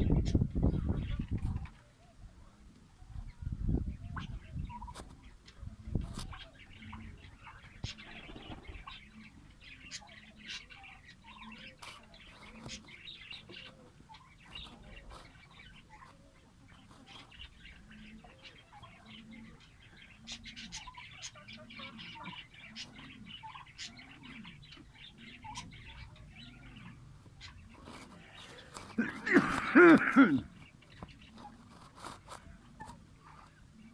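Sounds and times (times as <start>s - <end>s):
lovebirds chirping: 0.0s - 33.9s.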